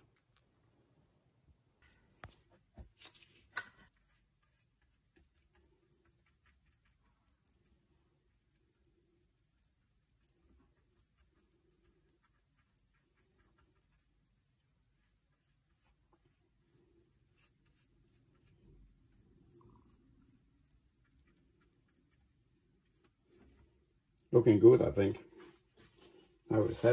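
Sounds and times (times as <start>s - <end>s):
brush scratching and dabbing: 1.8s - 26.9s.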